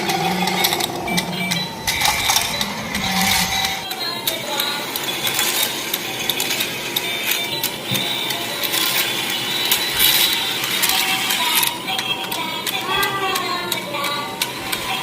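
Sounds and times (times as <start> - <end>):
toy mechanism clicking and clattering: 0.0 - 15.0.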